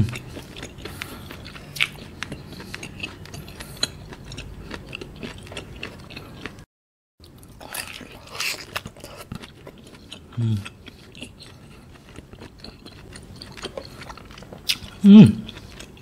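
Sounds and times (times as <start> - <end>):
person chewing squid: 0.0 - 16.0.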